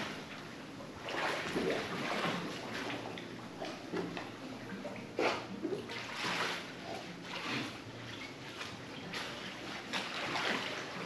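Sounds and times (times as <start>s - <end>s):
pool water sloshing and splashing: 0.0s - 11.0s.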